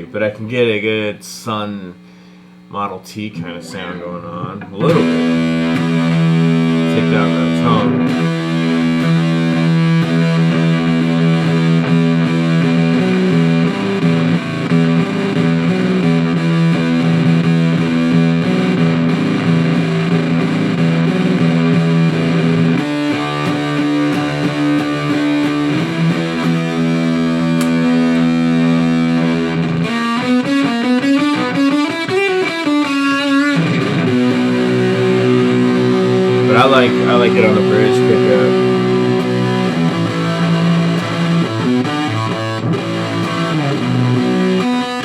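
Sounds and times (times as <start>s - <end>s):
fuzzed electric guitar: 1.8s - 45.0s.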